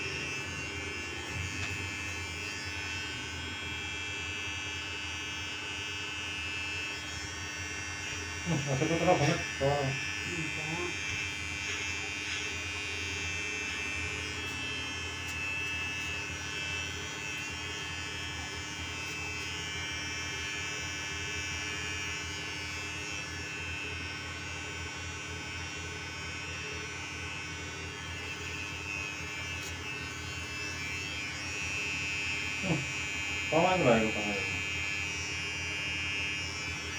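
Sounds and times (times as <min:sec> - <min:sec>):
electric hair clipper buzzing: 0:00.0 - 0:36.9.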